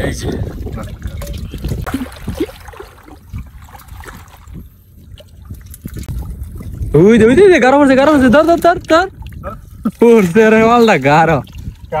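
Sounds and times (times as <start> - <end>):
muddy water splashing and trickling: 0.0 - 12.0
people wading in water: 0.0 - 12.0.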